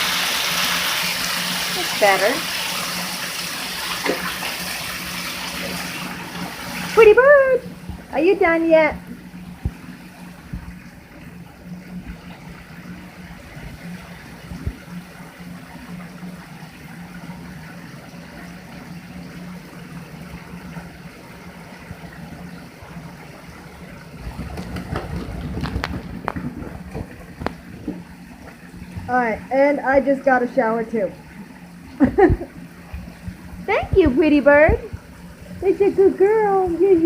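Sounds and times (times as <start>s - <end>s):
shower water running and splashing: 0.0s - 37.0s
low steady hum: 1.2s - 37.0s.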